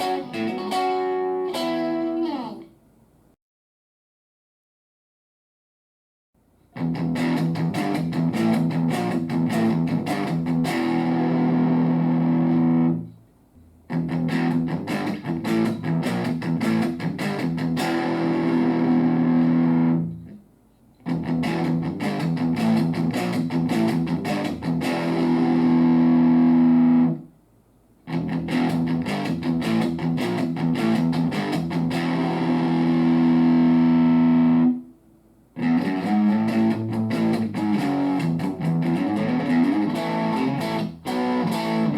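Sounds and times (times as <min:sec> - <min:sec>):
distorted electric guitar riff: 0:00.0 - 0:02.7, 0:06.8 - 0:13.0, 0:13.9 - 0:20.3, 0:21.1 - 0:27.2, 0:28.1 - 0:34.8, 0:35.6 - 0:41.9.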